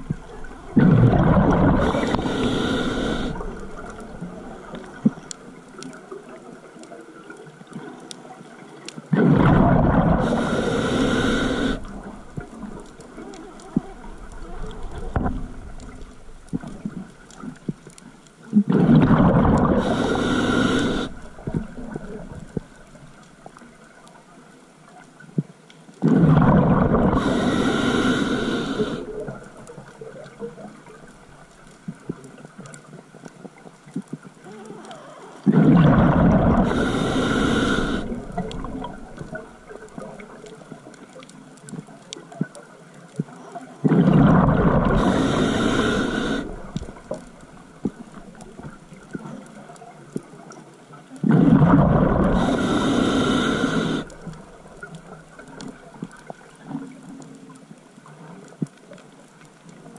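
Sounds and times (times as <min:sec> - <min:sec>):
exhaled bubbles underwater: 0:00.0 - 0:24.0, 0:26.0 - 0:32.9, 0:33.8 - 0:58.5.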